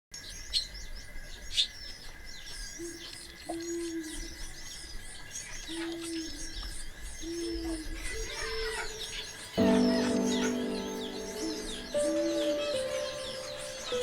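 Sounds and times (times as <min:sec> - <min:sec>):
finches chirping and twittering: 0:00.3 - 0:14.0.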